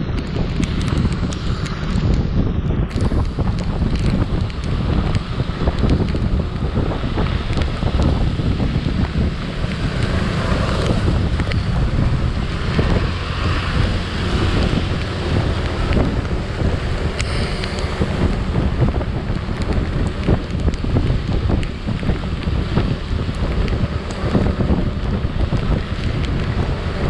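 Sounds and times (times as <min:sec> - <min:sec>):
scooter riding noise: 0:00.0 - 0:27.0
wind buffeting microphone: 0:00.0 - 0:27.0.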